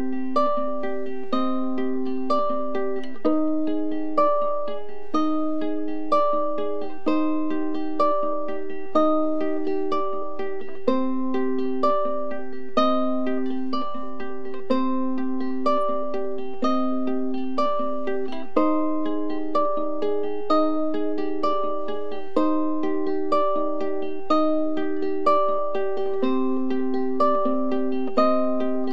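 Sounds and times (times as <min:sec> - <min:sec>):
ukulele plucking notes and chords: 0:00.0 - 0:28.9.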